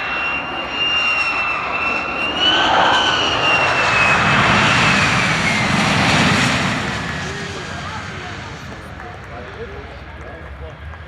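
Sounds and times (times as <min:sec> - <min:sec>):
jet noise rush: 0:00.0 - 0:09.0
jet engine whine: 0:00.0 - 0:11.0.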